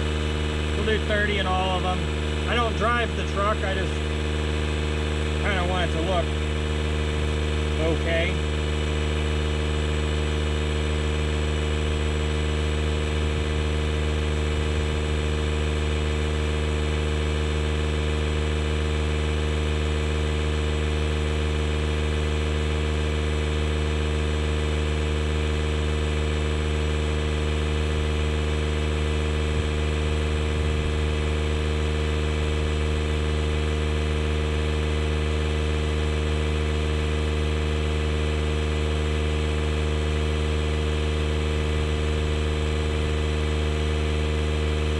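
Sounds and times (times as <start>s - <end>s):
air compressor running: 0.0s - 44.9s.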